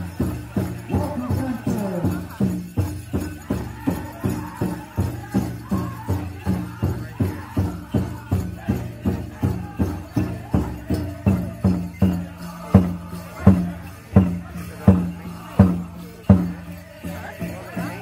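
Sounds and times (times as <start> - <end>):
people chanting: 0.0 - 18.0.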